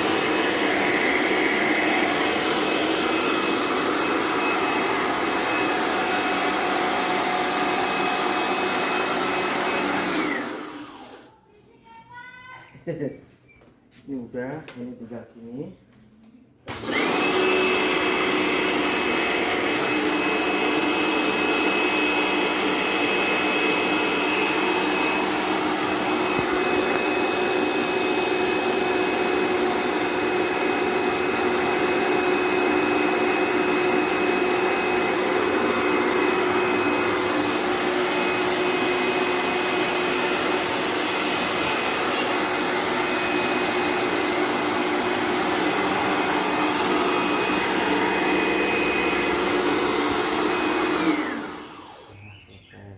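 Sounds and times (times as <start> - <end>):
electric motor running with whine: 0.0 - 11.2, 16.8 - 52.2.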